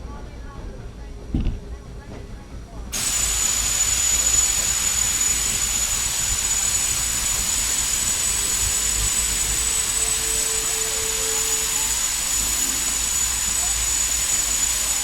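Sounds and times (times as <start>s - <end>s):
steam locomotive venting steam: 3.0s - 15.0s.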